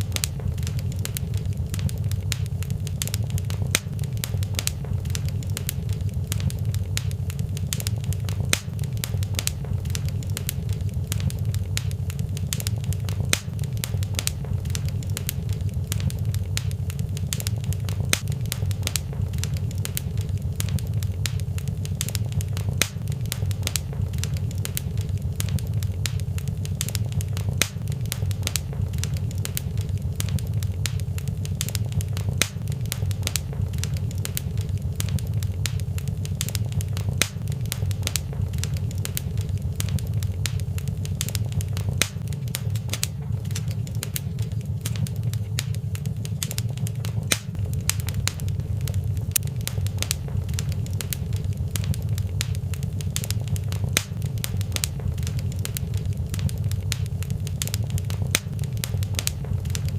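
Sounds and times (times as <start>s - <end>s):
fireplace fire crackling and popping: 0.0s - 59.9s
steady low rumble: 0.0s - 59.9s.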